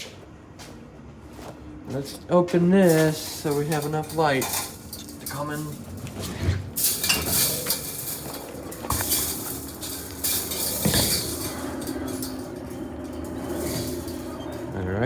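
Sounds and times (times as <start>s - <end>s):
small hard objects clinking: 2.8s - 15.0s.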